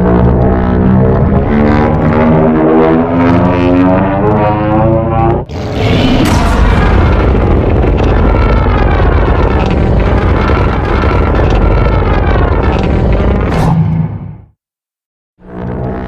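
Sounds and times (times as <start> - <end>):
loud monster roar rumble: 0.0 - 14.5.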